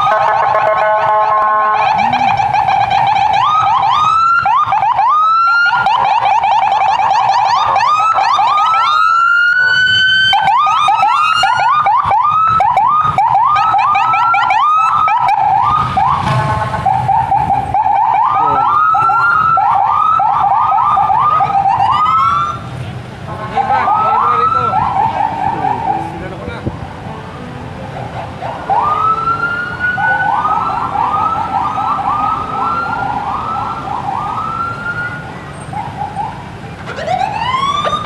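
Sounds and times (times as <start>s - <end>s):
police sirens whooping: 0.0s - 38.0s.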